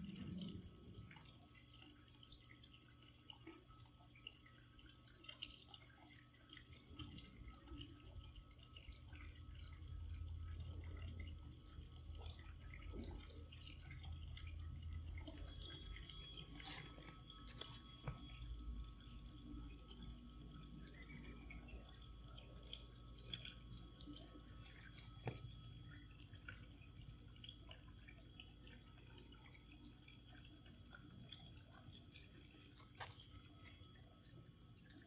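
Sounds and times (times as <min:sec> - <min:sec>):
water dripping and trickling: 0:00.0 - 0:35.0.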